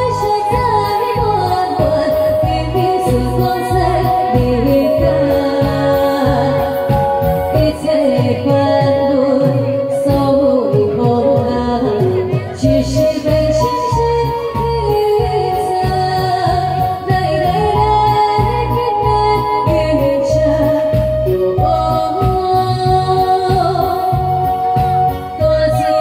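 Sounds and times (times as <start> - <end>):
backing track with drum beat: 0.0 - 26.0
woman singing into microphone: 0.0 - 26.0.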